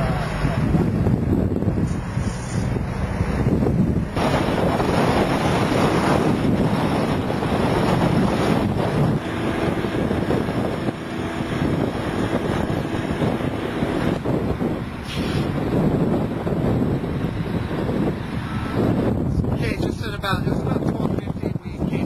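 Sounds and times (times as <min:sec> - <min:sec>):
low vehicle engine rumble: 0:00.0 - 0:22.0
wind buffeting microphone: 0:00.0 - 0:22.0.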